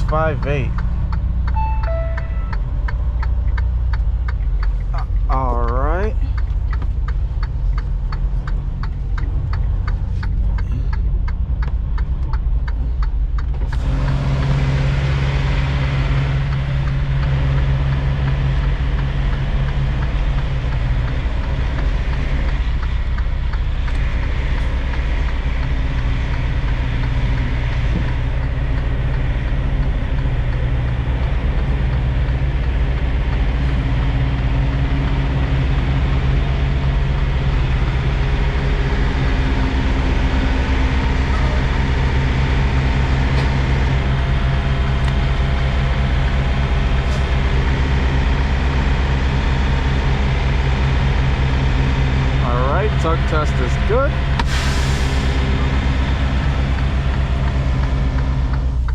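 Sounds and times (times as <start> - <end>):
faint regular ticking: 0.0 - 14.6, 15.6 - 54.6
diesel truck engine idling: 0.0 - 58.9.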